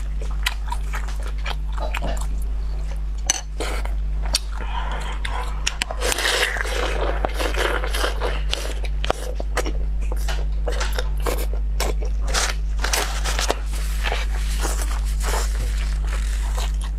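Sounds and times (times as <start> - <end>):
biting and chewing crunches: 0.0 - 16.9
low electrical hum: 0.0 - 16.9.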